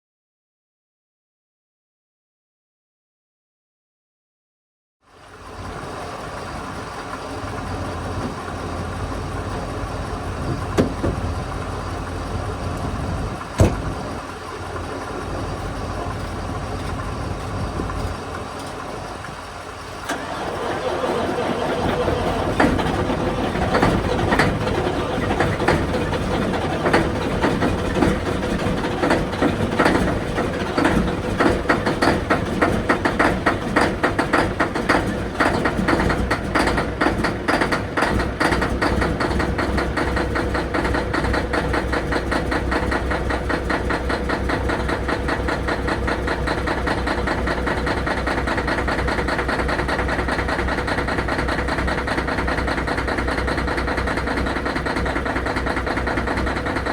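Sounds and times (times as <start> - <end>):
diesel engine idling: 5.1 - 56.9.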